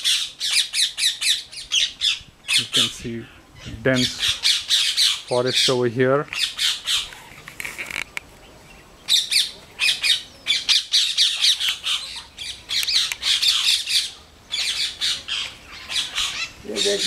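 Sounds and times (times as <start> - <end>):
parrots squawking: 0.0 - 8.0, 9.1 - 17.0.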